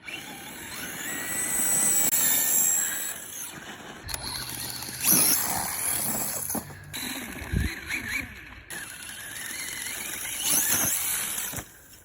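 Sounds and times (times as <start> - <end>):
rc car motor whining: 0.0 - 12.0.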